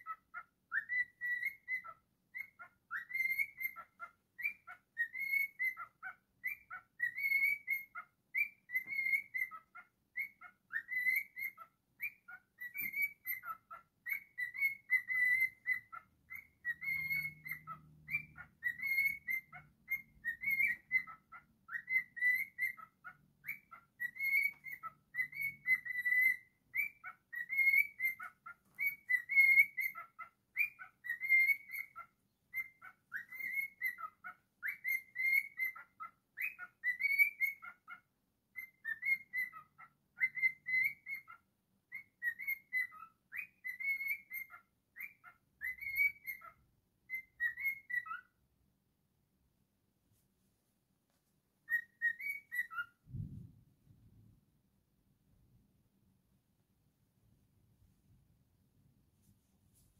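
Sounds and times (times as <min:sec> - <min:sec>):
cockatiel whistling: 0:00.0 - 0:48.4, 0:51.6 - 0:53.3.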